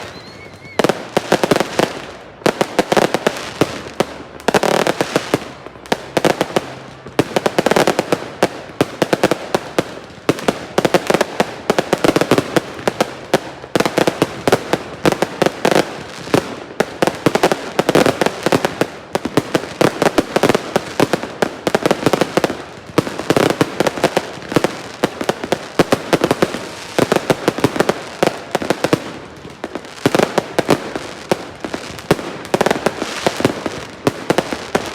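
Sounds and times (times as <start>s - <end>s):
fireworks cracking and popping: 0.0s - 34.9s.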